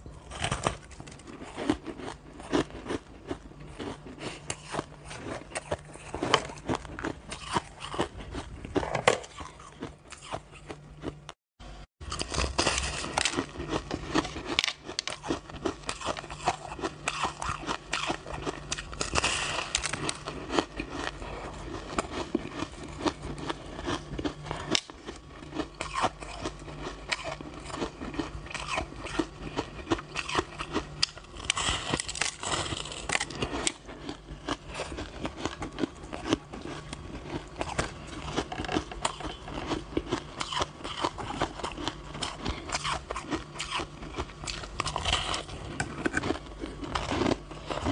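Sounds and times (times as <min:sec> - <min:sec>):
chewing crushed ice: 0:00.0 - 0:11.4, 0:12.0 - 0:47.9.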